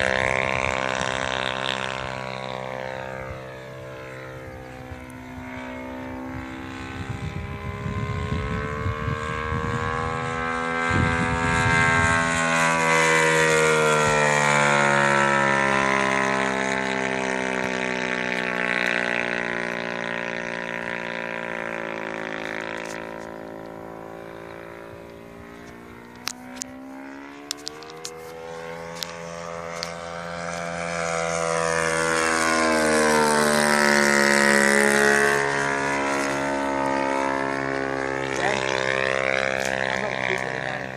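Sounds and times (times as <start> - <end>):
low rumbling: 0.0 - 40.9
model plane engine droning: 0.0 - 40.9.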